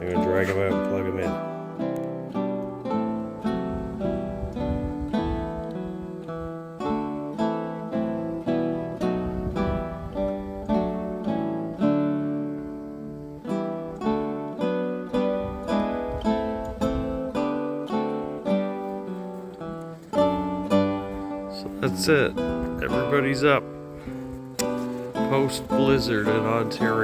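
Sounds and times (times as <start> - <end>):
acoustic guitar melody: 0.0 - 27.0.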